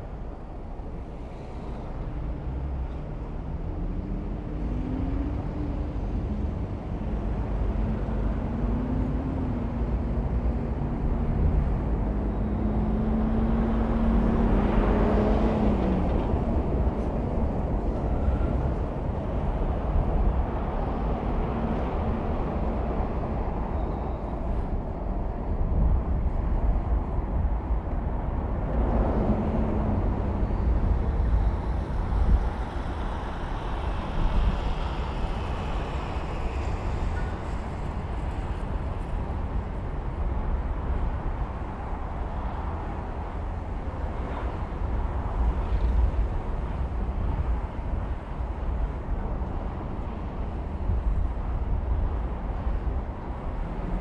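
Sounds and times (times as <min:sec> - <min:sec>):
engine and tyre rumble: 0:00.0 - 0:54.0.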